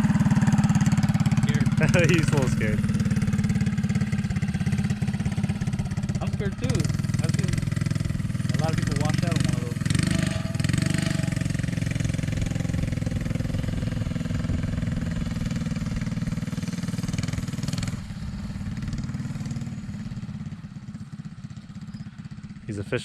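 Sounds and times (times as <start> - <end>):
mini bike engine running: 0.0 - 23.0.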